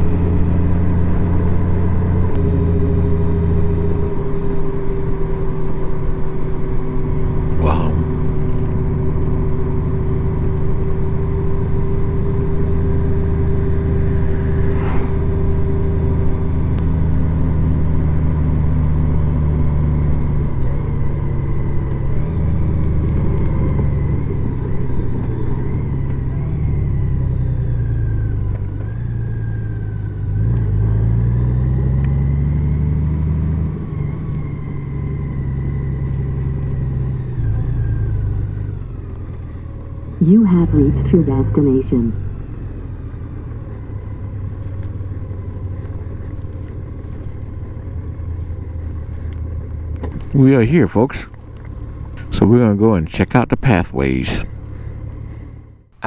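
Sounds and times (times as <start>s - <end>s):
motorcycle engine running: 0.0s - 52.5s, 54.4s - 56.0s.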